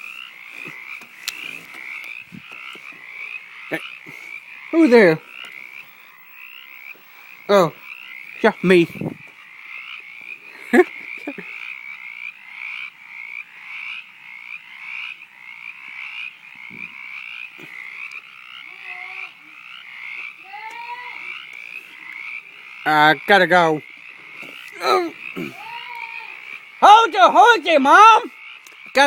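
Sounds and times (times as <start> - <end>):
frog croaking: 0.0 - 29.0.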